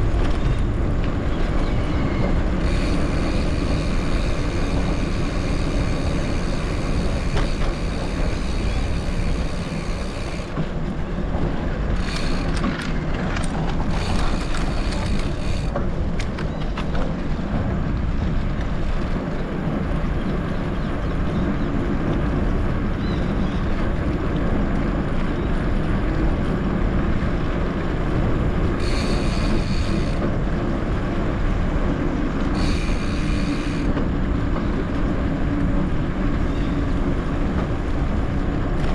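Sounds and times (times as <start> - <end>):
bike tyres rumbling on gravel: 0.0 - 38.9
wind on microphone: 0.0 - 38.9.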